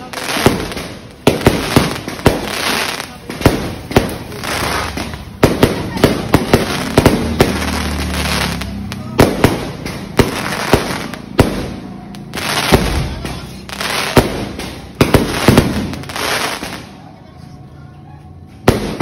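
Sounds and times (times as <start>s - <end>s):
fireworks bangs: 0.0s - 17.0s, 18.6s - 19.0s
fireworks crackling hiss: 0.0s - 17.0s.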